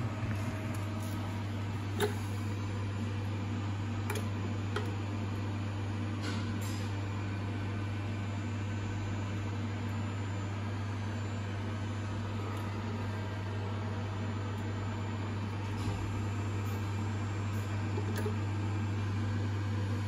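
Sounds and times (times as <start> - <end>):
machinery electrical hum: 0.0 - 20.0.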